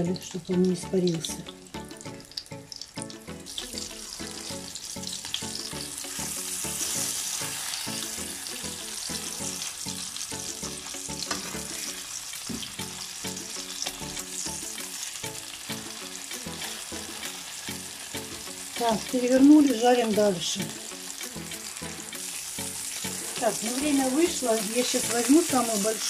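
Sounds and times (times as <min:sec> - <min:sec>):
pork chops sizzling in oil: 0:00.0 - 0:26.0.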